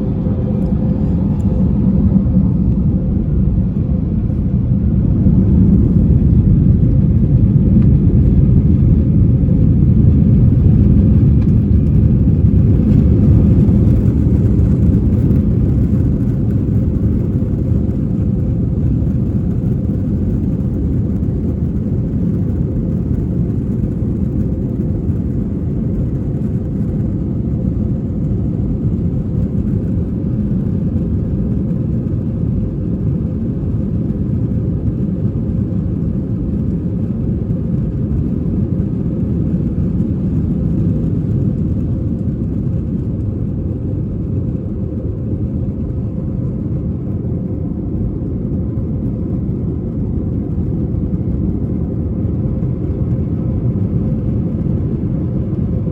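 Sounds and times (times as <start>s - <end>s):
airplane cabin rumble: 0.0s - 55.9s.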